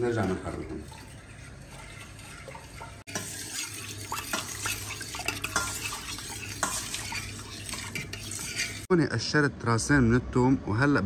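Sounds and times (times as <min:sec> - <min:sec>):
spoon scraping a metal pot: 0:00.0 - 0:08.9.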